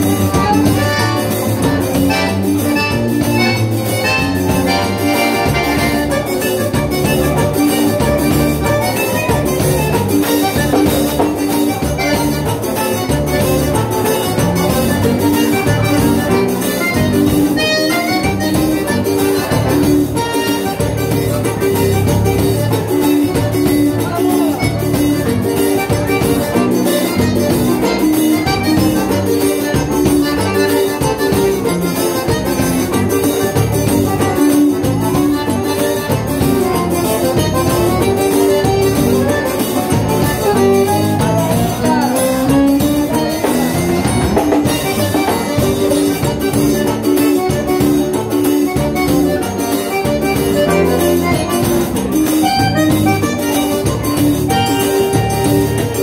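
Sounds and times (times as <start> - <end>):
bass guitar and drums: 0.0 - 56.0
piano accordion: 0.0 - 56.0.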